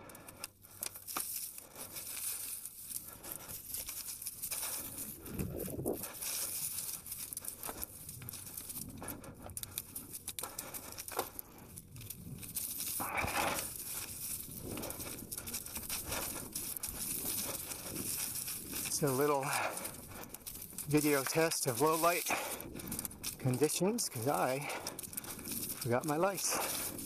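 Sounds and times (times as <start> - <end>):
forest floor crunched under bike: 0.0 - 27.0.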